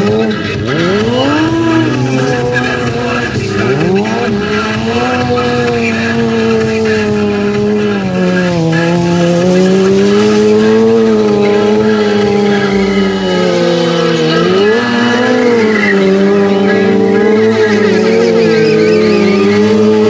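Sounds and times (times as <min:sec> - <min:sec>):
motorcycle engine revving high: 0:00.0 - 0:20.0.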